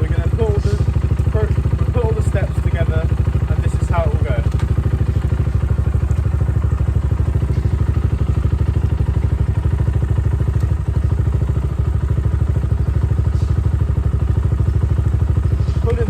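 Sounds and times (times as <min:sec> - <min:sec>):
dirt bike engine idling: 0:00.0 - 0:16.0.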